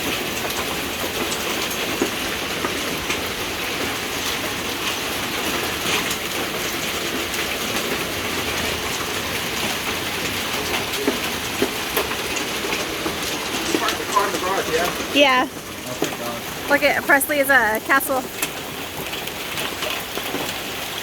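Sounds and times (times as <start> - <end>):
hail clattering on surfaces: 0.0 - 21.0.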